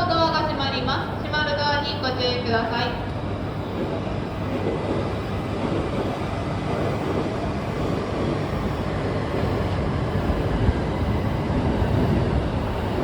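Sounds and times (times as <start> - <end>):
standing train rumble and hum: 0.0 - 13.0.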